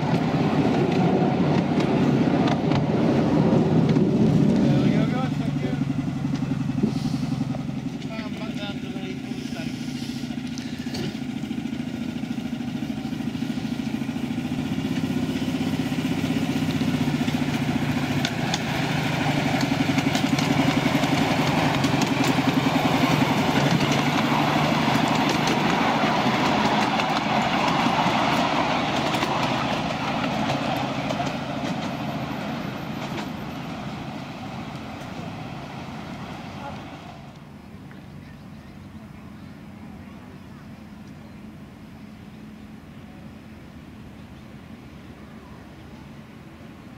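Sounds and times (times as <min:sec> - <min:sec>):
wheels clicking on rails: 0:00.0 - 0:38.8
small locomotive engine running: 0:00.0 - 0:46.9.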